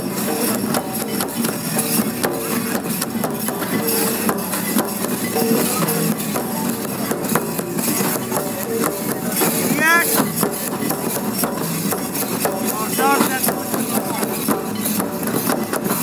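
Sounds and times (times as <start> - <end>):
barrel drum beaten with stick: 0.0 - 16.0.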